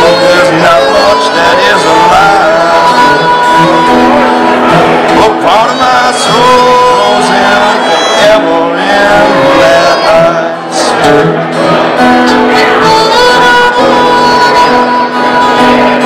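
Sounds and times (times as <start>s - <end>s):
acoustic guitar plucking: 0.0s - 16.0s
fiddle melody: 0.0s - 16.0s.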